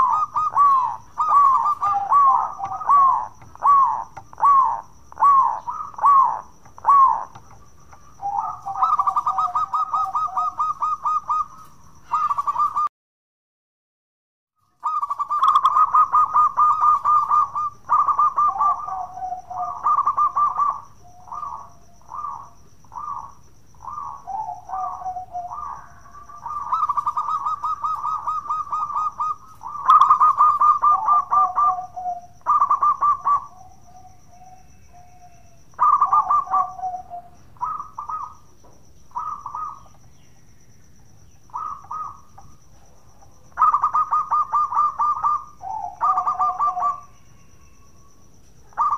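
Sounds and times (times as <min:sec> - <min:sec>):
dove trilled cooing: 0:00.0 - 0:12.9, 0:14.7 - 0:40.8, 0:41.4 - 0:48.9.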